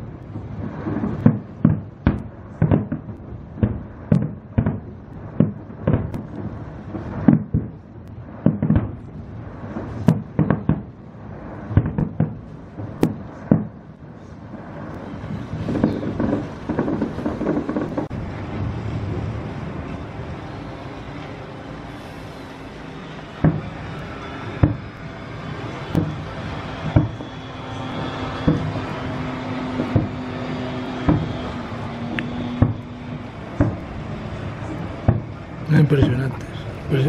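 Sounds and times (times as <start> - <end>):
fireworks bangs: 0.0 - 37.0.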